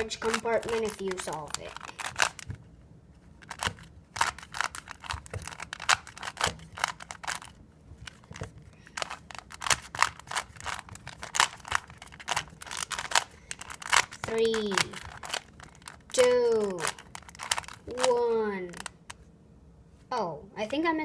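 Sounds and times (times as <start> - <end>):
puzzle cube plastic clicking: 0.0 - 2.6, 3.4 - 19.2.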